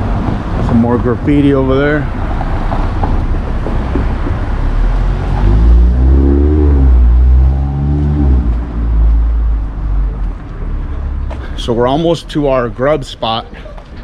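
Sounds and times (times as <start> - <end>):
vehicle engine passing: 0.0 - 12.7
heavy low rumble: 0.0 - 12.9.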